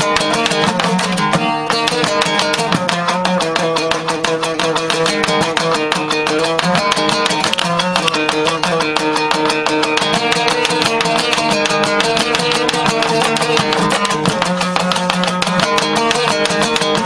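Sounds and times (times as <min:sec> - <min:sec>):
plucked lute strummed fast: 0:00.0 - 0:17.0.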